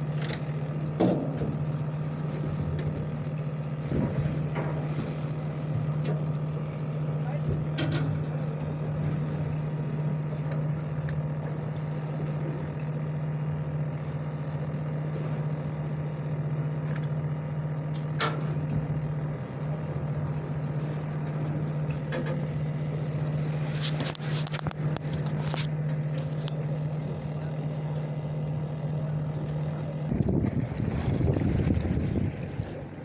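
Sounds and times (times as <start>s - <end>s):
boat machinery humming: 0.0s - 33.0s.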